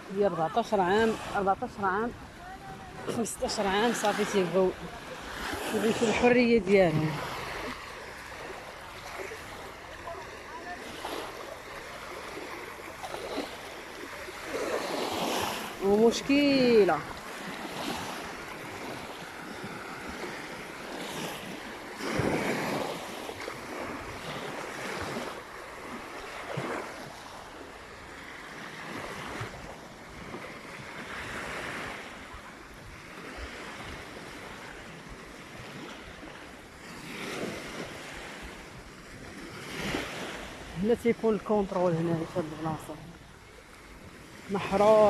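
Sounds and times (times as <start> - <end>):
sea waves breaking on beach: 0.0 - 45.0.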